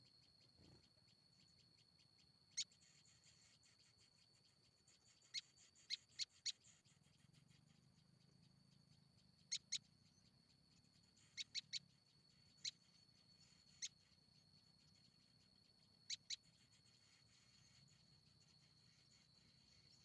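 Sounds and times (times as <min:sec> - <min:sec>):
bird chip calls: 0:00.0 - 0:20.0.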